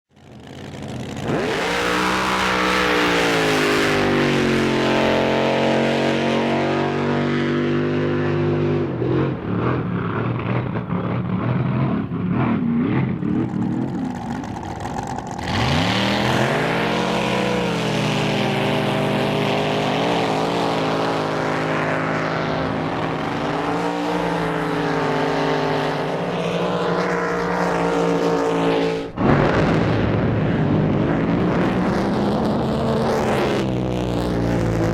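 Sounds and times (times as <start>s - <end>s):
racing boat engines: 0.1s - 34.9s.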